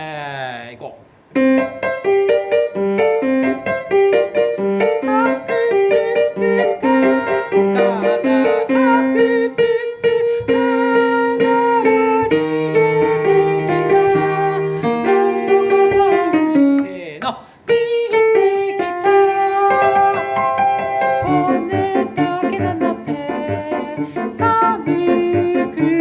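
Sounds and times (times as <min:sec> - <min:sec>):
keyboard music: 0:01.3 - 0:17.0, 0:17.8 - 0:26.0.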